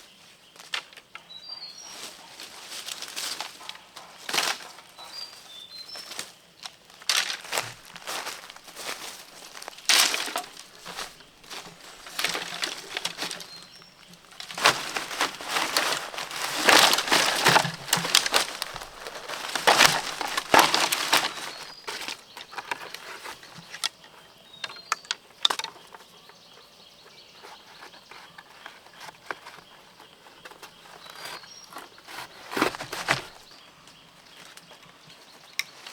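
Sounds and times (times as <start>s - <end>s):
dry plant material crackling: 0.7s - 24.0s, 27.8s - 33.7s.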